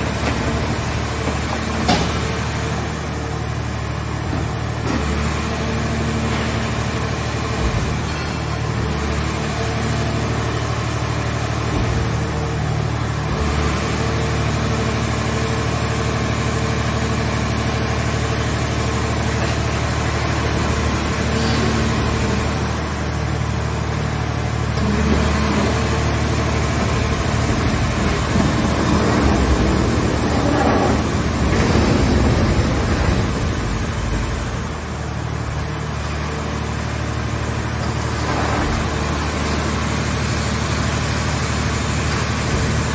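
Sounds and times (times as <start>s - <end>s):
hydraulic baler machine drone: 0.0s - 42.9s.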